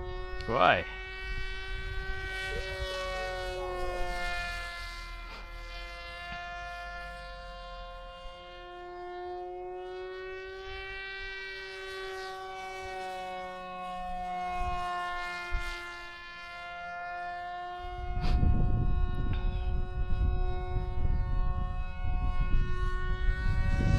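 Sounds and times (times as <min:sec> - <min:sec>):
electric motor and propeller whine: 0:00.0 - 0:23.9.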